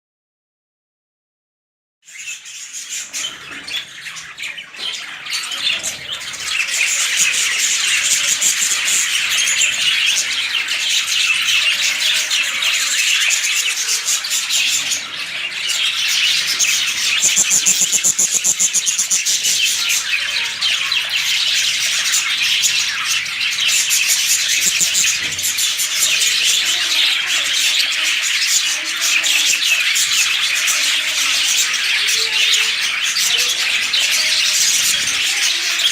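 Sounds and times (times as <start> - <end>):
lovebirds chirping and squawking: 2.1 - 35.9.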